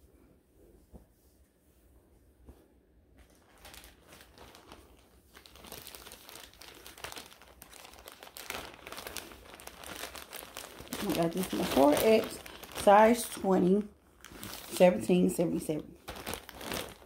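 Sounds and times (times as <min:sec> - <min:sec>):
packaging crinkling and rustling: 0:03.2 - 0:17.0.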